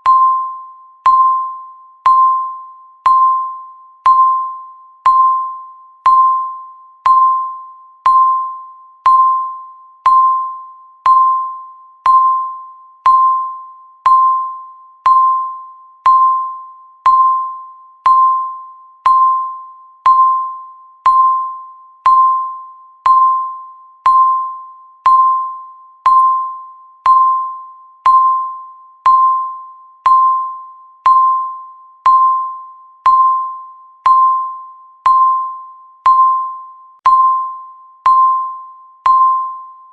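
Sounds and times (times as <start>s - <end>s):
bell-like timer ticks: 0.0s - 39.9s.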